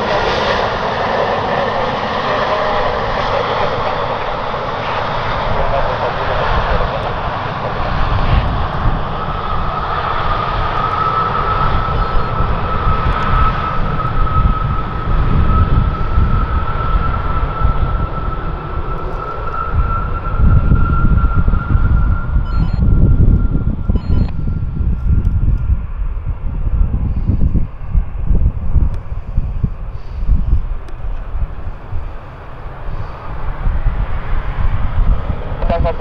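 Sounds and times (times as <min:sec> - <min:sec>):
deep engine rumble: 0:00.0 - 0:36.0
jet fan whine: 0:00.0 - 0:36.0.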